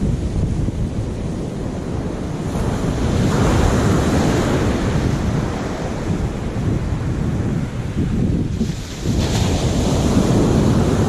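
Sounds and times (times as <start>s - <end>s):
wind buffeting microphone: 0.0s - 11.0s
surf breaking on pebble beach: 1.7s - 11.0s.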